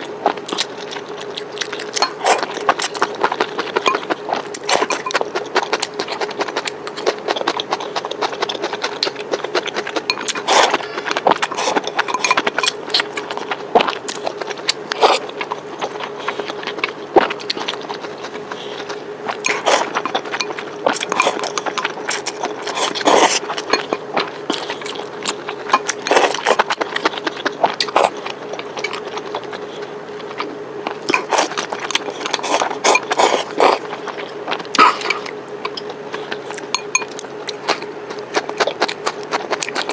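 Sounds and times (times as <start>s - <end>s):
chewing and crunching food: 0.0s - 39.9s
faint hum: 0.0s - 39.9s.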